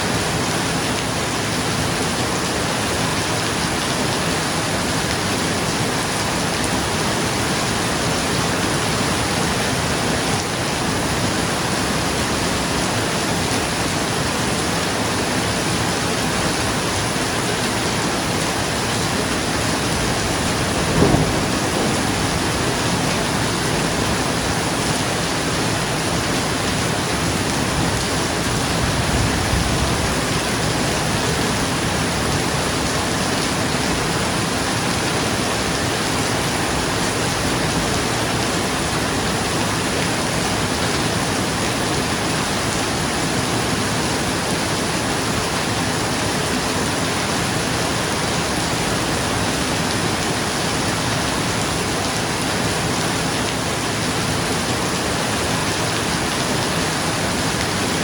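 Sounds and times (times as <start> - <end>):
rain on a roof: 0.0 - 58.0.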